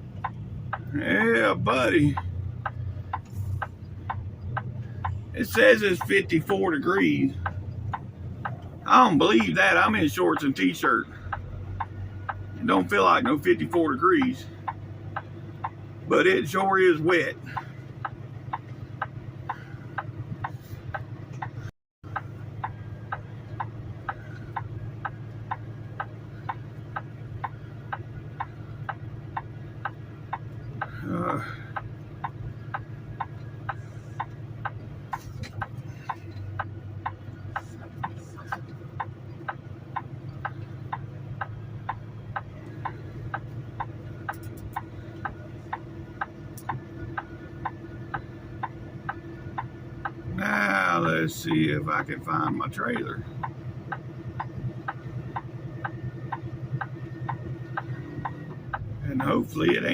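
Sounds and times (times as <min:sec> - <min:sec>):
regular ticking: 0:00.0 - 0:59.9
truck engine low hum: 0:00.0 - 0:59.9.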